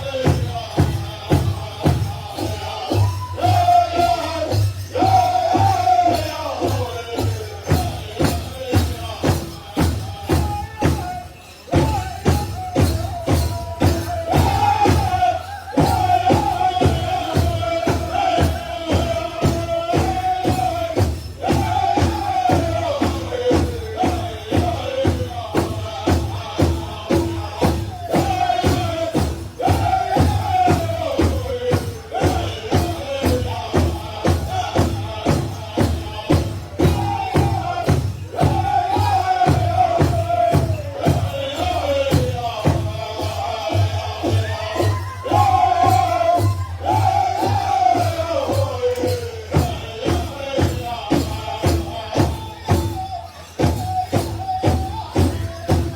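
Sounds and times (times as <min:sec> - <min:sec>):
drum group singing: 0:00.0 - 0:55.9.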